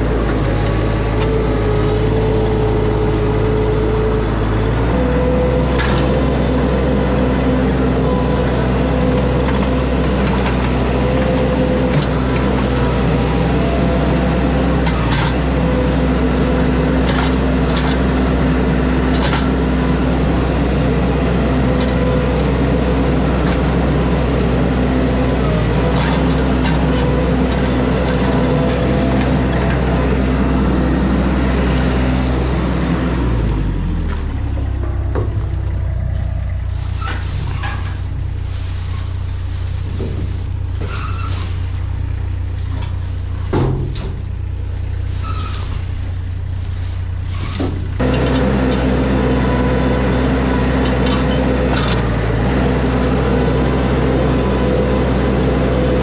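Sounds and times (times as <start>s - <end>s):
equipment engine running: 0.0s - 56.0s.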